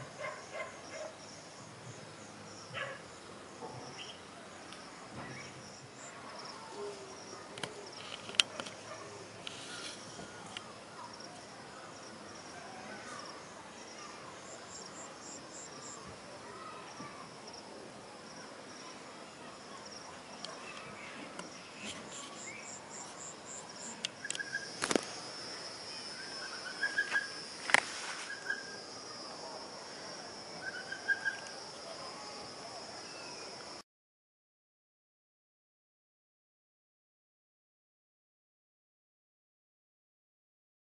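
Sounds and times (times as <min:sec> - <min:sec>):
insects trilling: 0:00.0 - 0:33.8.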